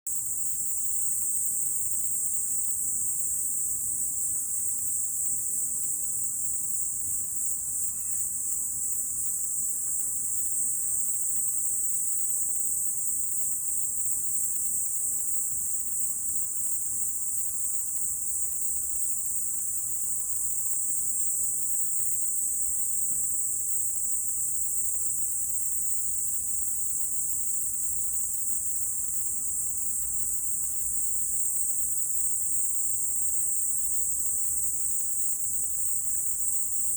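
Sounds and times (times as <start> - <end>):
crickets chirping: 0.1 - 36.9.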